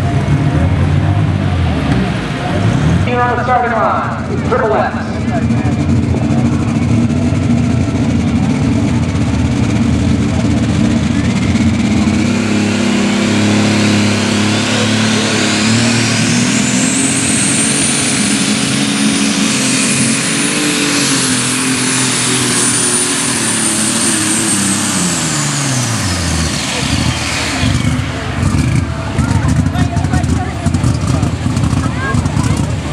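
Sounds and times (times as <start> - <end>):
high turbocharger whine: 0.0 - 32.9
tractor engine revving: 0.0 - 32.9.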